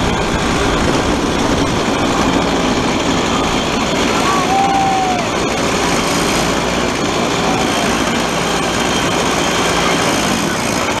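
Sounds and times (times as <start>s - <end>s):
kart two-stroke engine running: 0.0s - 11.0s.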